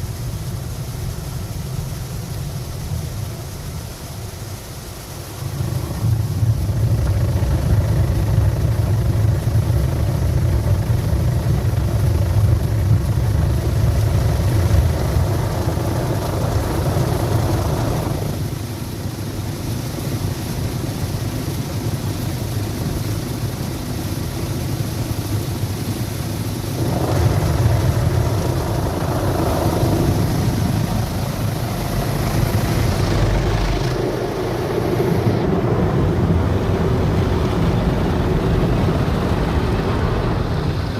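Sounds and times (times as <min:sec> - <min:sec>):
car wash machinery rumbling: 0:00.0 - 0:40.9.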